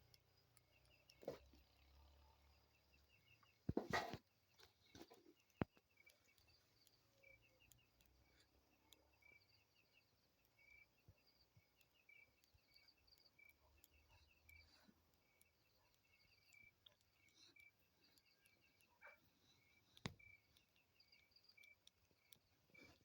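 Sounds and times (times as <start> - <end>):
faint high animal chirps: 0.1 - 23.0.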